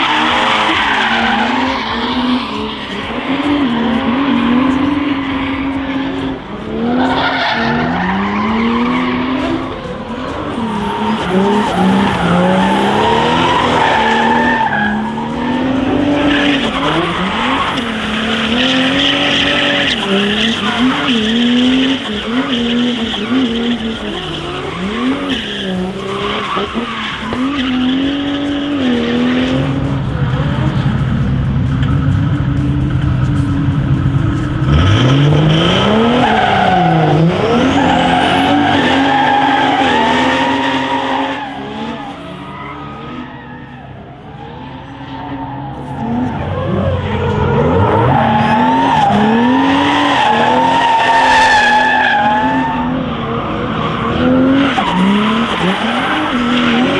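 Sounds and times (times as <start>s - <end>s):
diesel engine revving: 0.0s - 56.9s
tyres skidding and squealing: 0.0s - 56.9s.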